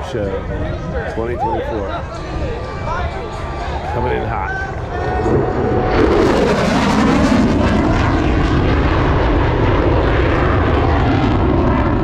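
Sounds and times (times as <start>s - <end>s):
fighter jet passing: 0.0s - 12.0s.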